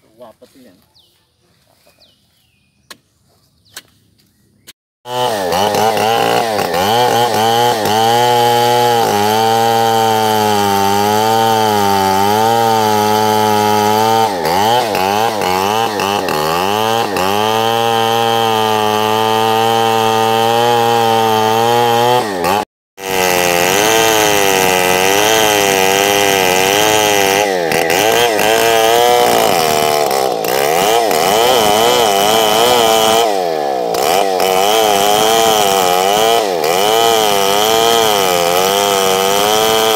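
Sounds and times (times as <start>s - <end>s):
chainsaw cutting into tree: 5.0s - 39.9s.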